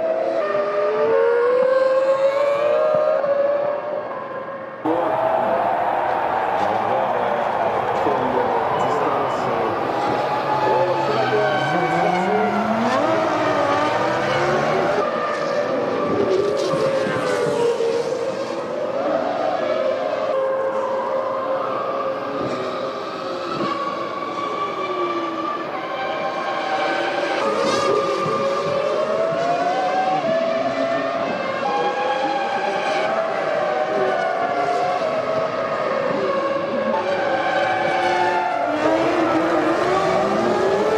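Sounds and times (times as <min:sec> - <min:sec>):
racing car engines passing: 0:00.0 - 0:40.9.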